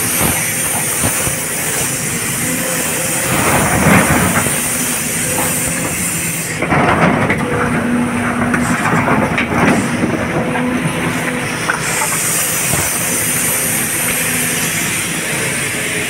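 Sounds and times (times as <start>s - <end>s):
rock clattering and grinding: 0.0s - 13.8s
bucket scraping rock: 0.0s - 14.6s
excavator engine and hydraulics: 0.0s - 16.0s.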